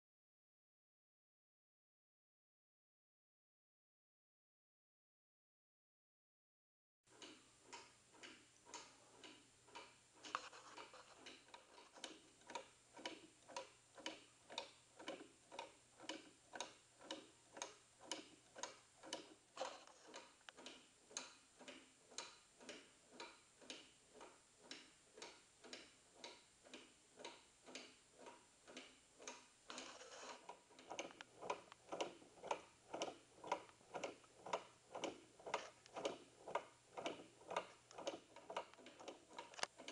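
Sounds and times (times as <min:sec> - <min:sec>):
wooden clock ticking: 0:07.1 - 0:39.9.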